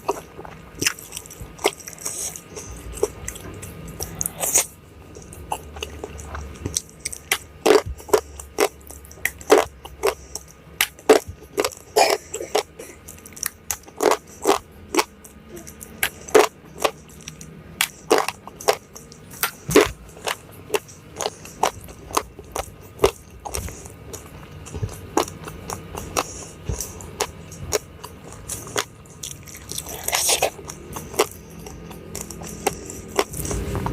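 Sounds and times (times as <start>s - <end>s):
crunchy chewing: 0.0s - 33.9s.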